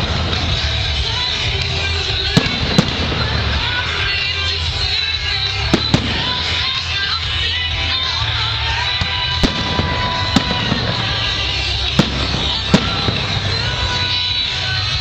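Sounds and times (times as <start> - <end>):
fireworks bangs: 0.0 - 15.0
steady background din: 0.0 - 15.0.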